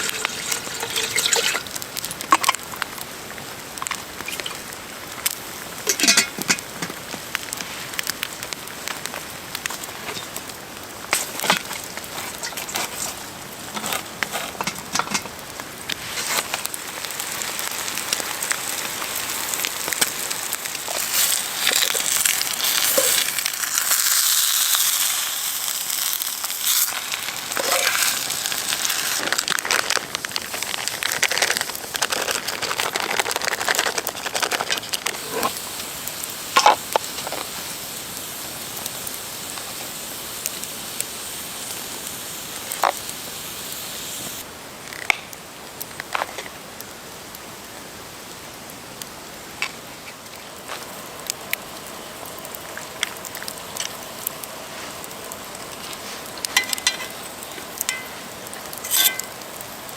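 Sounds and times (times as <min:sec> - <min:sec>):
campfire crackling and popping: 0:00.0 - 0:59.9
sizzling hiss: 0:00.0 - 0:59.9.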